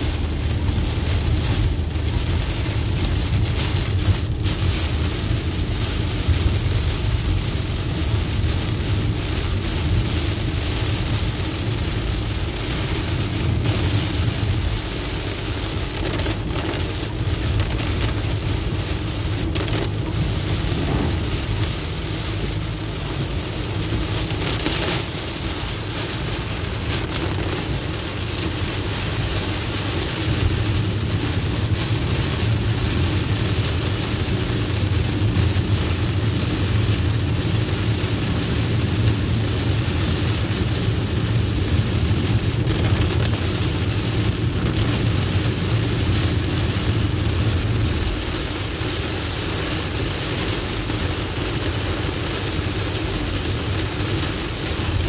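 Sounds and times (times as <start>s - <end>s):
car rumbling on wet road: 0.0s - 55.0s
heavy rain on car windshield: 0.0s - 55.0s.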